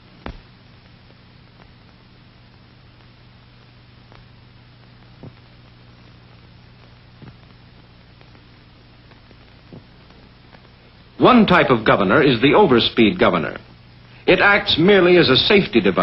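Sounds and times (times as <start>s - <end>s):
film soundtrack hiss and hum: 0.0s - 16.0s.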